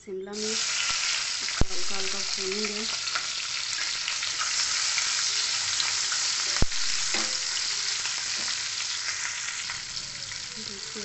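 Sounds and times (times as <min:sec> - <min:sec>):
peppers sizzling in oil: 0:00.3 - 0:11.0.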